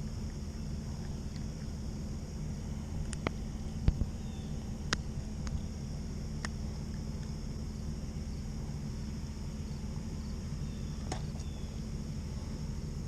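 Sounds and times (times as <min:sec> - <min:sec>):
high insect drone: 0:00.0 - 0:13.0
low steady rumble: 0:00.0 - 0:13.0.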